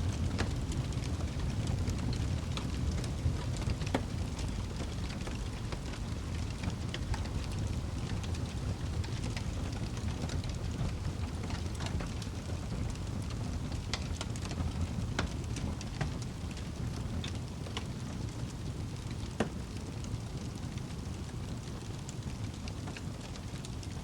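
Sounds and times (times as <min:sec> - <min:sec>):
fire crackling and popping: 0:00.0 - 0:24.0
fire low rumble: 0:00.0 - 0:24.0.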